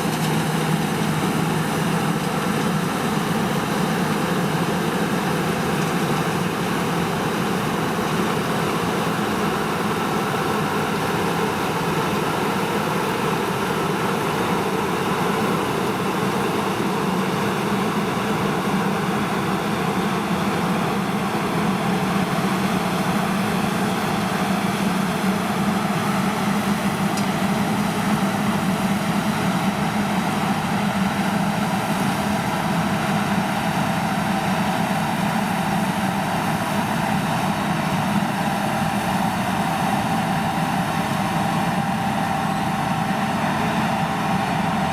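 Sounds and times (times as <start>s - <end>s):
diesel engine drone: 0.0s - 44.9s.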